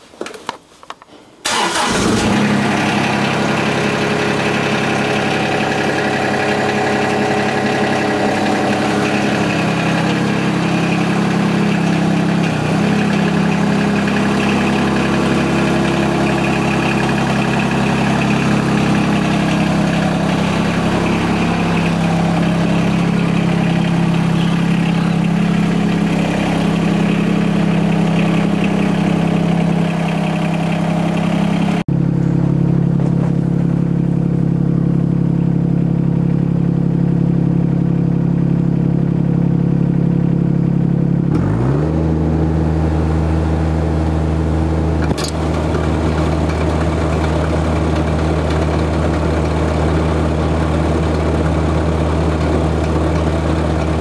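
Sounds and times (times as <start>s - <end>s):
diesel engine starting and running: 1.4s - 54.0s.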